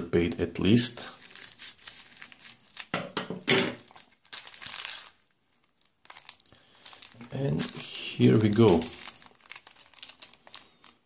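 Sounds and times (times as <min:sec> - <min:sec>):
plastic crinkling: 0:00.2 - 0:11.0.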